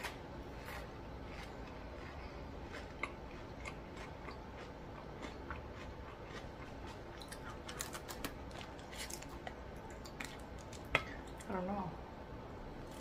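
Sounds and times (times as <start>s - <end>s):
chewing crunchy fried food: 0.0s - 11.5s.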